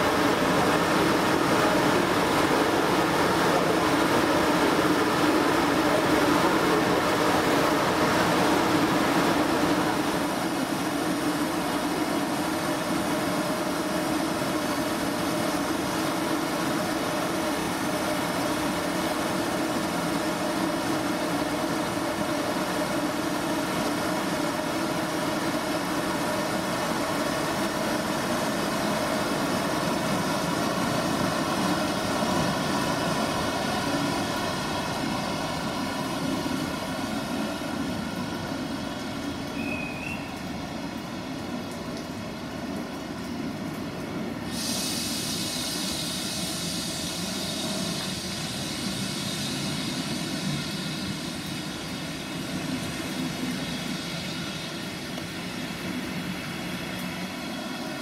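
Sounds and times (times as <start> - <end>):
electric locomotive humming: 0.0 - 58.0.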